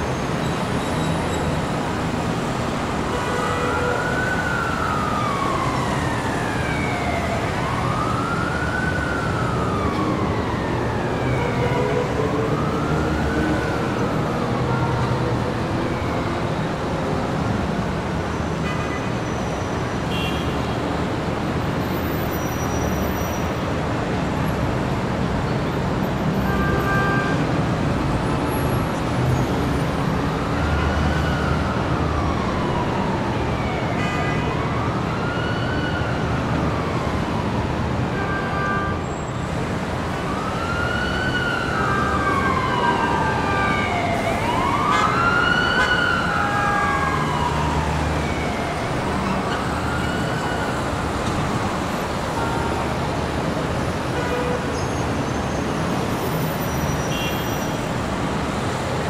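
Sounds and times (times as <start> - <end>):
emergency siren wailing: 0.0 - 59.0
street traffic: 0.0 - 59.0.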